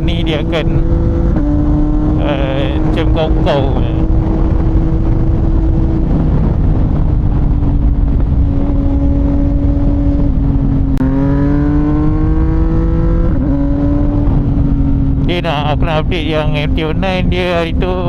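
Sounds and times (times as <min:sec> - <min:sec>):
motorcycle engine accelerating: 0:00.0 - 0:18.0
wind rumble: 0:00.0 - 0:18.0.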